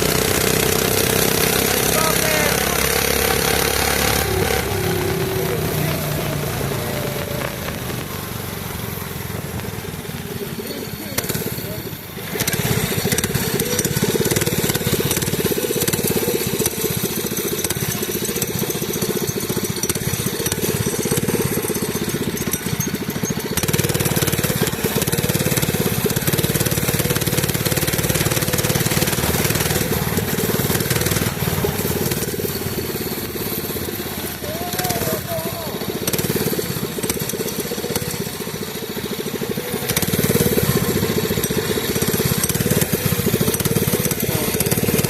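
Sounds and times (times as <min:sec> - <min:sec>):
small engine running: 0:00.0 - 0:45.0.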